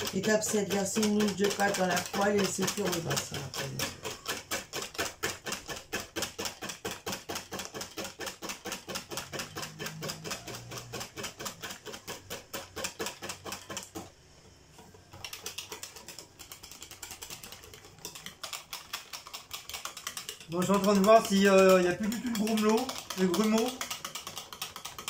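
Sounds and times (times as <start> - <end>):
whisk clicking against bowl: 0.0 - 14.1, 15.1 - 25.0.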